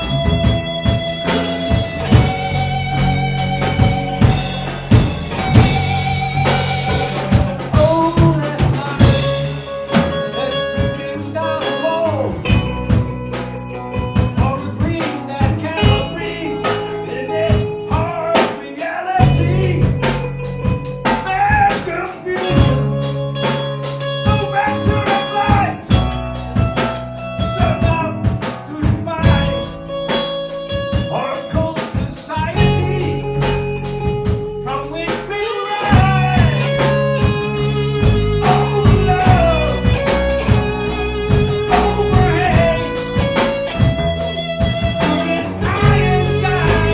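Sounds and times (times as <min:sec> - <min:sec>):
bass: 0:00.0 - 0:46.9
drum kit: 0:00.0 - 0:46.9
guitar melody: 0:00.0 - 0:46.9.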